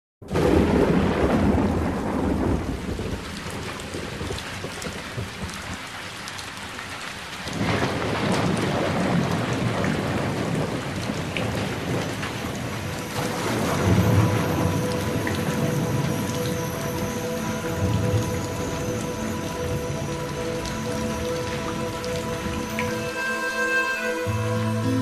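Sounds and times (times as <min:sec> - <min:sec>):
thunder rumbling: 0:00.2 - 0:05.8, 0:07.6 - 0:22.9
steady rain: 0:00.2 - 0:25.0.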